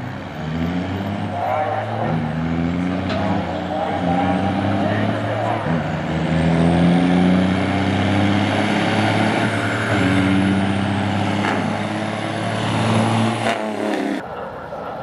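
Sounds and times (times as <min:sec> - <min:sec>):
diesel truck engines at full throttle: 0:00.0 - 0:15.0.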